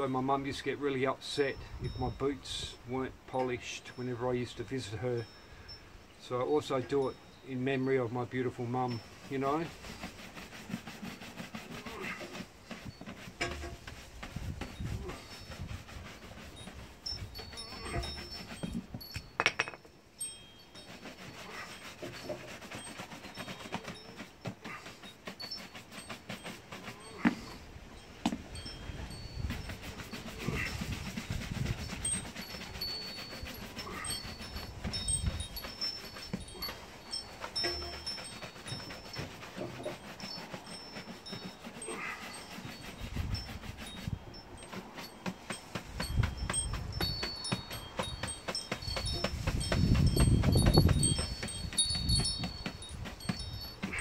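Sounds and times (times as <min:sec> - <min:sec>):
shoe brush rubbing leather: 0:08.5 - 0:19.1, 0:20.3 - 0:54.0.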